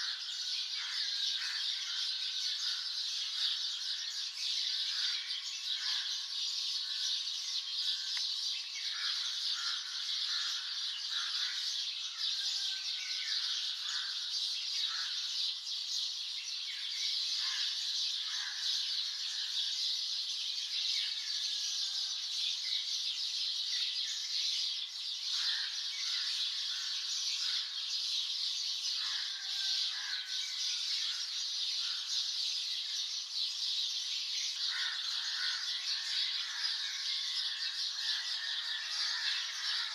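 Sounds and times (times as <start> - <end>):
birds chirping chorus: 0.0 - 39.9.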